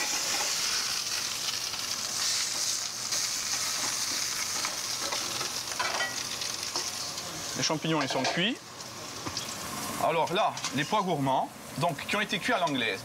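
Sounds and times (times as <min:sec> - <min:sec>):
potatoes sizzling in hot fat: 0:00.0 - 0:13.0.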